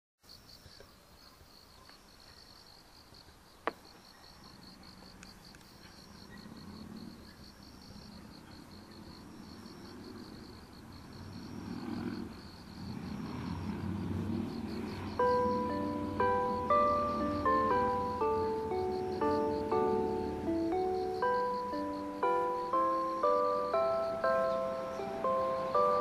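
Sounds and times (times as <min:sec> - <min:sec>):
insects chirping: 0:00.2 - 0:26.0.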